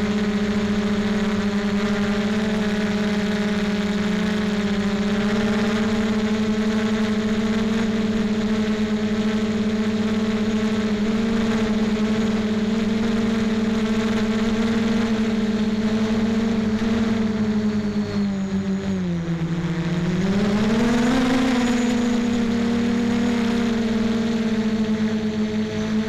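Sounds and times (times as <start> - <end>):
model aircraft motor droning: 0.0 - 26.0.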